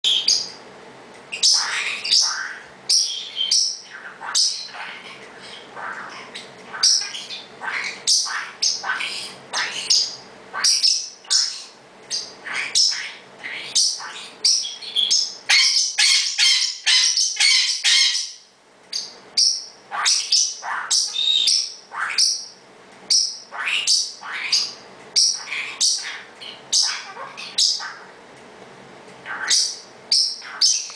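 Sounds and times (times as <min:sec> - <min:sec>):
parrot chirping: 0:00.0 - 0:00.6, 0:01.3 - 0:28.2, 0:29.2 - 0:30.9
parrot chattering: 0:01.4 - 0:18.4, 0:19.0 - 0:28.2, 0:29.2 - 0:30.9.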